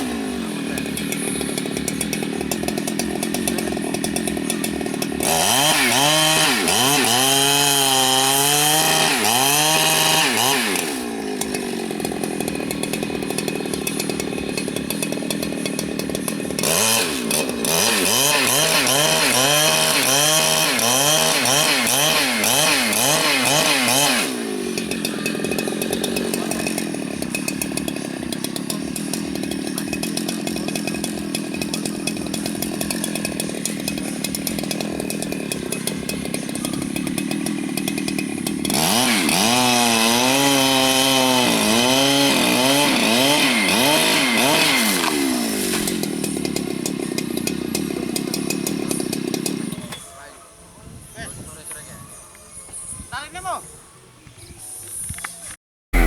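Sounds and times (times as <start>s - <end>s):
chainsaw cutting wood: 0.0s - 50.5s, 54.9s - 56.0s
chainsaw idling: 0.0s - 50.7s.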